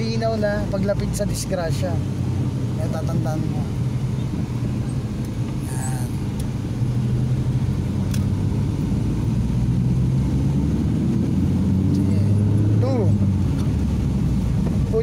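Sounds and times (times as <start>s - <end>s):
car engine running: 0.0s - 15.0s
road rumble: 0.0s - 15.0s.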